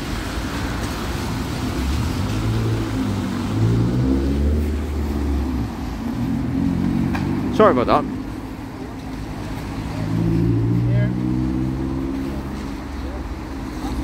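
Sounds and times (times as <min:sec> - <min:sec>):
heavy diesel vehicle engine: 0:00.0 - 0:14.0
traffic noise: 0:00.0 - 0:14.0.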